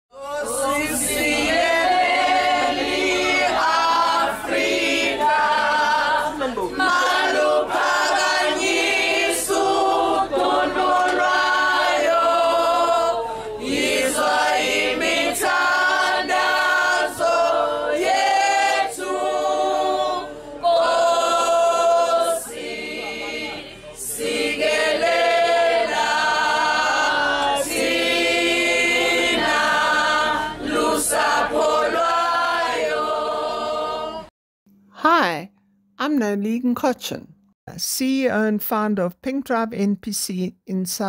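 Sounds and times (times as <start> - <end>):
women singing unaccompanied: 0.2 - 34.3.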